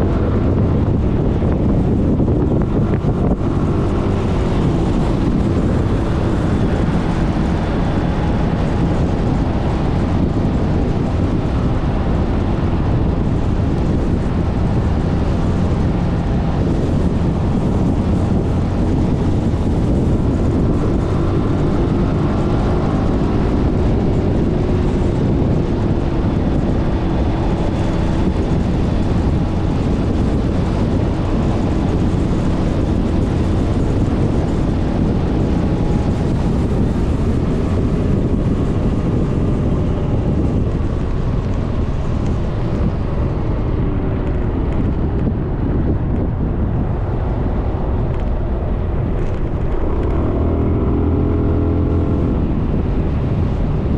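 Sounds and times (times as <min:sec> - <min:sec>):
wind rush on microphone: 0:00.0 - 0:53.9.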